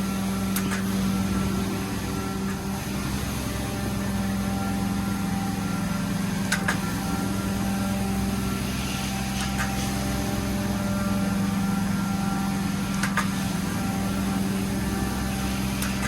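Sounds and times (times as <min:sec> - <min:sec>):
carpet cleaning machine hum: 0:00.0 - 0:16.0.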